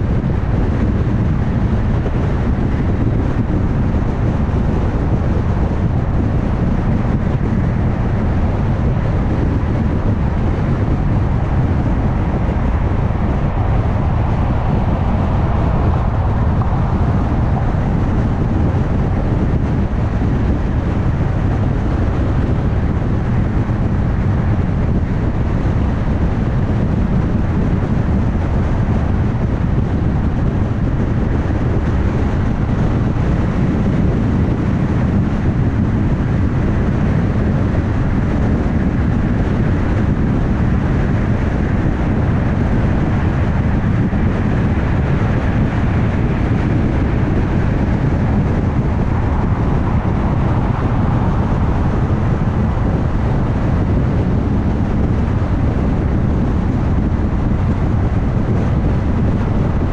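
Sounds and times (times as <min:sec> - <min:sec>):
car engine drone: 0:00.0 - 0:59.9
wind: 0:00.0 - 0:59.9.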